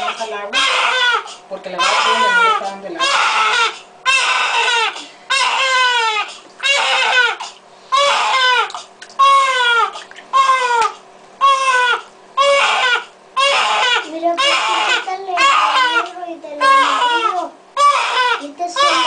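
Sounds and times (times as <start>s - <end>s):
baby crying: 0.0s - 19.0s.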